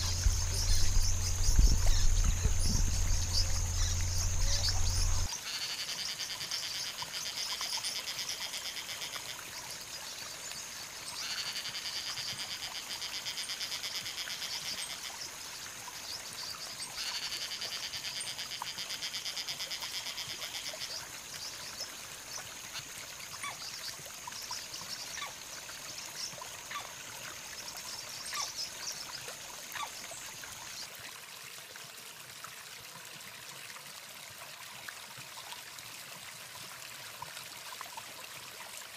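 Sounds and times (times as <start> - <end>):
water trickling: 0.0 - 5.3, 6.8 - 38.9.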